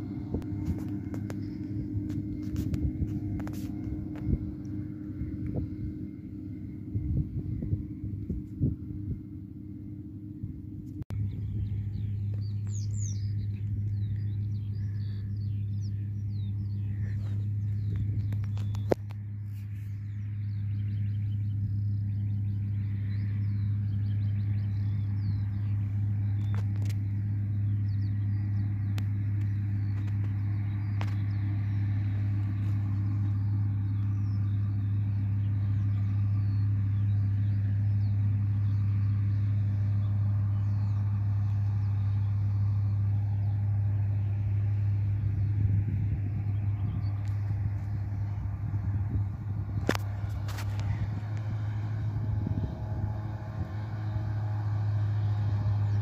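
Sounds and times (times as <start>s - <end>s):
irregular low rumble: 0.0s - 56.0s
tractor diesel engine drone: 0.0s - 56.0s.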